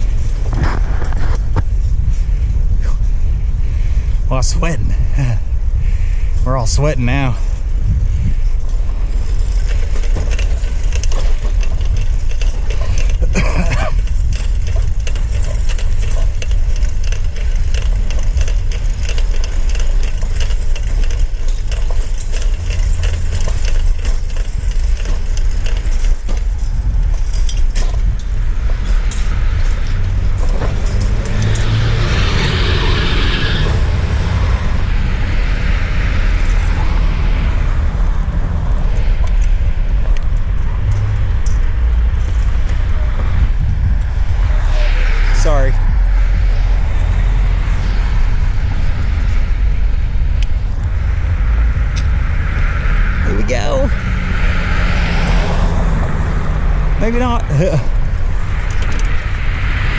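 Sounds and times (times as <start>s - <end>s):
street traffic: 0.0s - 59.9s
wind buffeting microphone: 0.0s - 59.9s.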